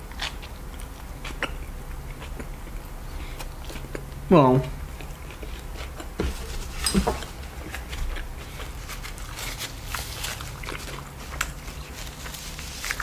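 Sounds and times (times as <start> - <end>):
chewing with wet mouth sounds: 0.0 - 6.2, 7.2 - 13.0.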